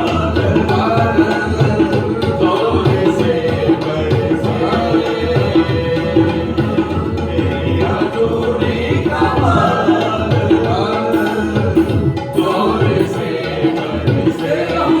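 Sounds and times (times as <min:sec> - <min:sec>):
voices singing: 0:00.0 - 0:15.0.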